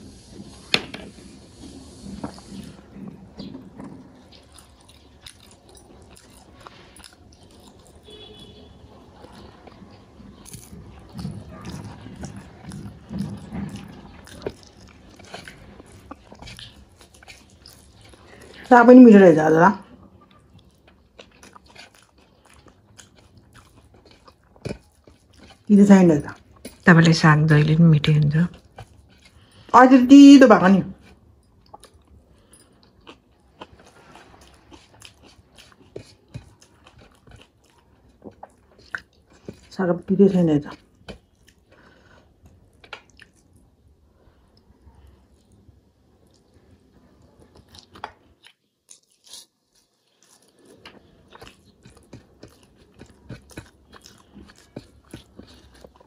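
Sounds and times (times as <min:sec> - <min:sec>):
person chewing food: 0:00.1 - 0:18.7, 0:19.8 - 0:26.8, 0:27.6 - 0:29.7, 0:31.0 - 0:39.8, 0:40.6 - 0:56.0.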